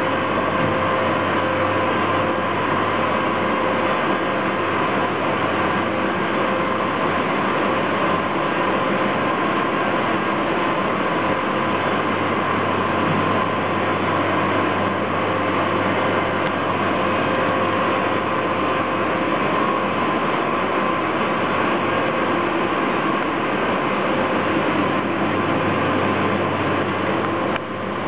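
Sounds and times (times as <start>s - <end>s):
machinery humming with a whine: 0.0s - 28.0s.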